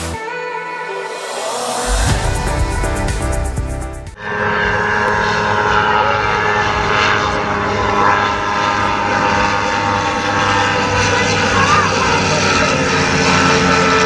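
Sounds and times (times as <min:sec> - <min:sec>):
propeller aircraft engine drone: 0:00.0 - 0:14.0.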